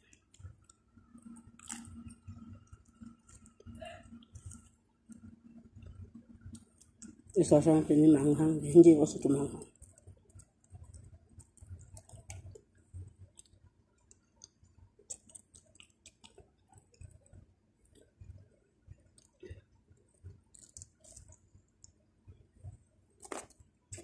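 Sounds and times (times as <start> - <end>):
faint chewing: 0.0 - 7.6, 9.6 - 24.0.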